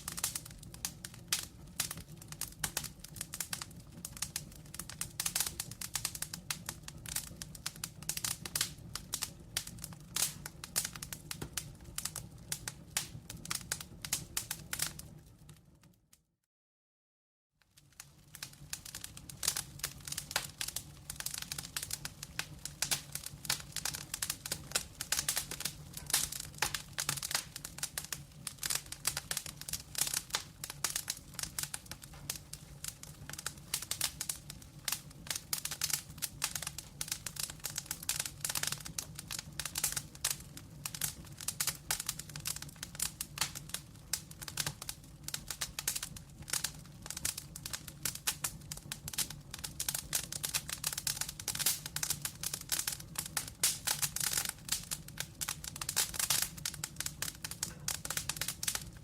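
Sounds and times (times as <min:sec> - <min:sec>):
wood fire crackling and popping: 0:00.0 - 0:16.1, 0:17.7 - 0:59.0.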